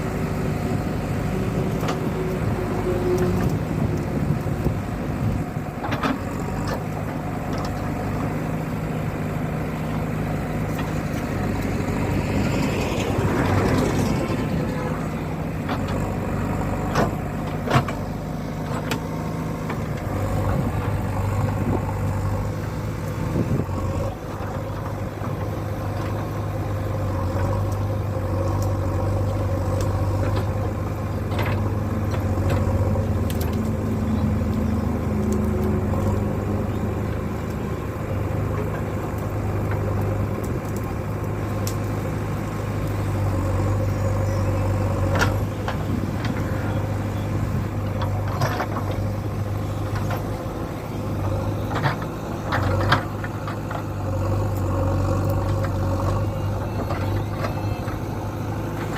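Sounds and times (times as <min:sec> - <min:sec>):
heavy diesel engine running: 0:00.0 - 0:58.9.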